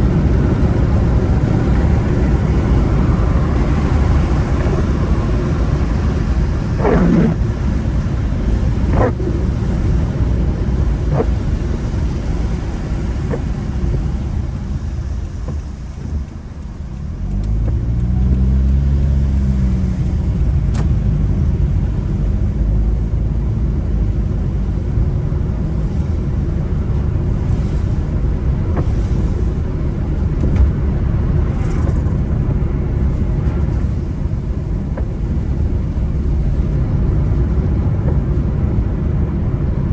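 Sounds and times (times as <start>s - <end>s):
car engine and tyres on wet road: 0.0s - 39.9s.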